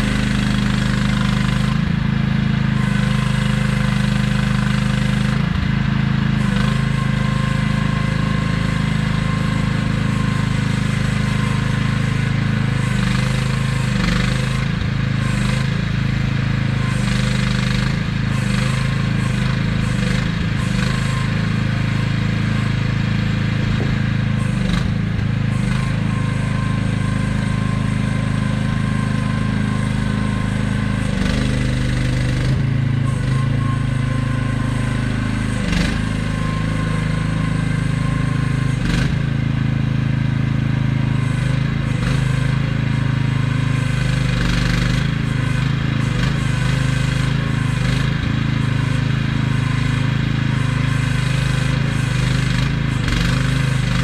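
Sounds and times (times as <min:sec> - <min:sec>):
mini excavator engine under load: 0:00.0 - 0:54.0.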